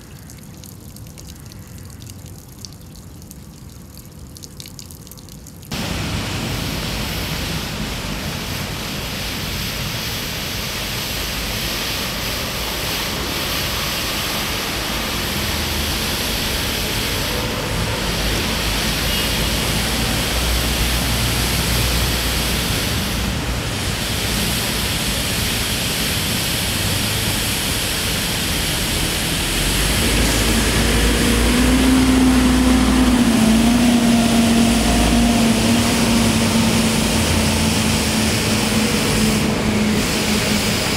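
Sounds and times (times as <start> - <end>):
fountain water splashing: 0.0 - 40.9
city traffic: 5.7 - 40.9.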